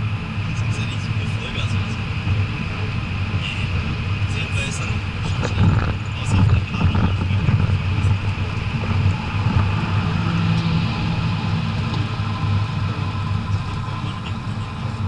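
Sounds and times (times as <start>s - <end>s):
diesel car engine running: 0.0s - 15.0s.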